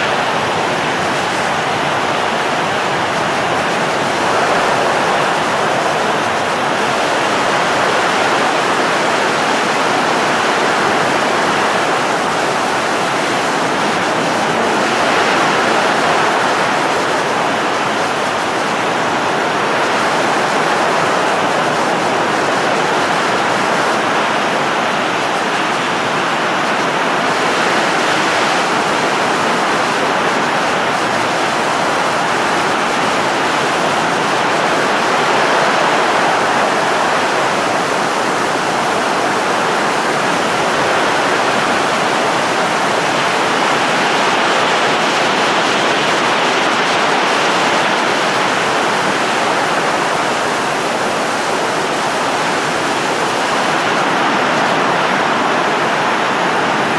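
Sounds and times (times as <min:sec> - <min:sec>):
rushing air noise: 0:00.0 - 0:56.9.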